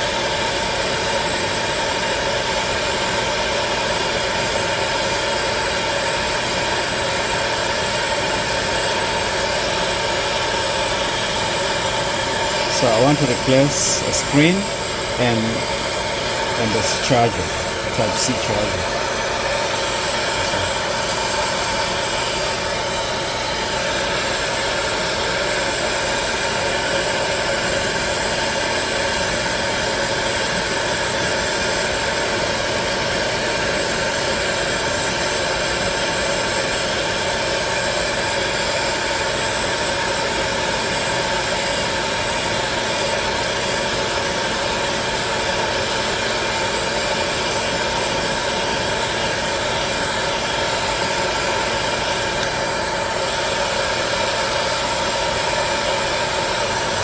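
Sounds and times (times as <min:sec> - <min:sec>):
fan motor whirring and hissing: 0:00.0 - 0:57.0.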